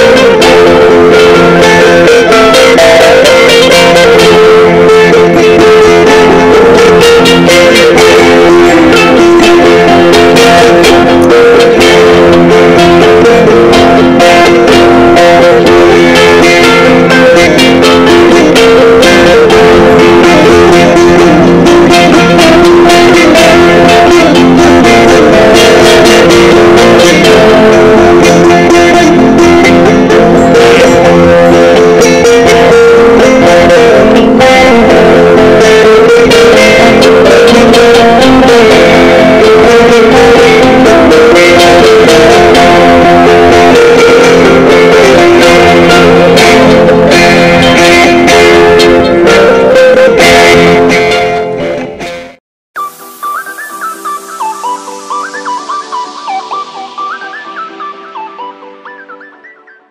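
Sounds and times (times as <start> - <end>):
plucked lute: 0.0 - 59.9.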